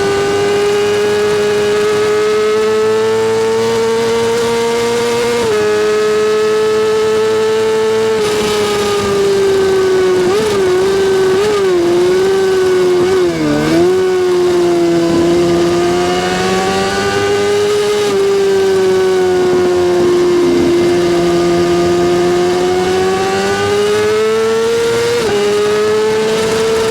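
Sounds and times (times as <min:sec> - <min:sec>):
motorcycle engine revving high: 0:00.0 - 0:26.9.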